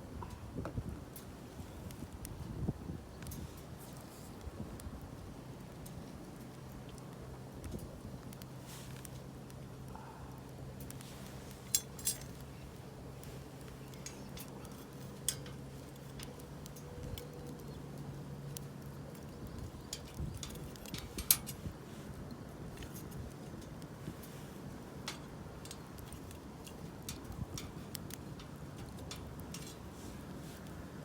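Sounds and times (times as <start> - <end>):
bonfire crackling: 0.0 - 31.0.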